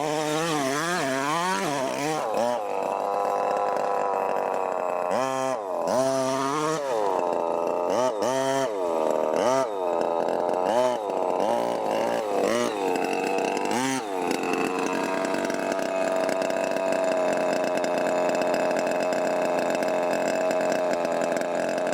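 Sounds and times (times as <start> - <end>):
small two-stroke engine revving: 0.0 - 21.9.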